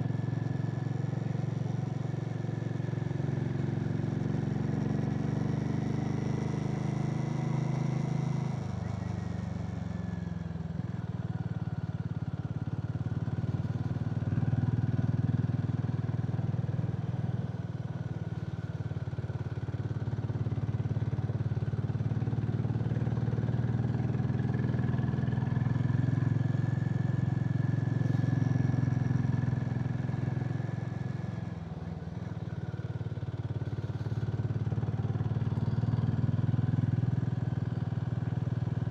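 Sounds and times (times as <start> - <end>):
motorcycle engine running: 0.0 - 38.9
wind: 0.0 - 38.9.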